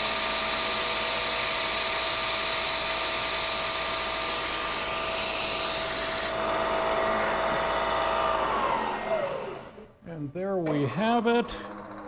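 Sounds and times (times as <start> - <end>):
milling machine spindle whine: 0.0 - 9.9.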